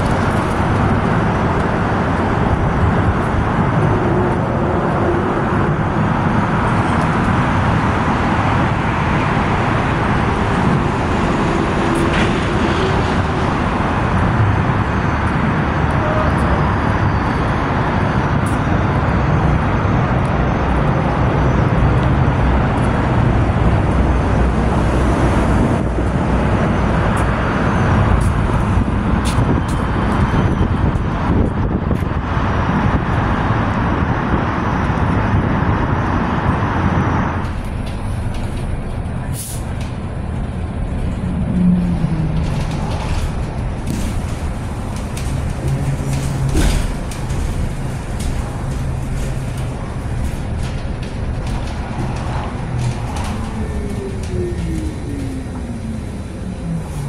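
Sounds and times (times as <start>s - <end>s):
road traffic rumble and hiss: 0.0s - 57.0s.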